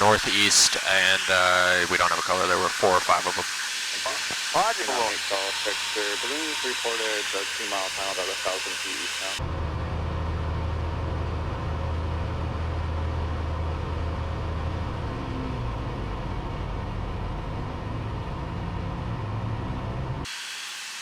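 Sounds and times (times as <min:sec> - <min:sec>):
light aircraft engine droning: 0:00.0 - 0:20.3.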